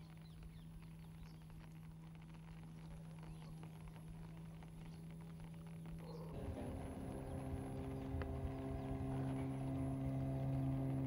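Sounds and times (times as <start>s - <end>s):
motor boat engine humming: 1.8s - 11.0s.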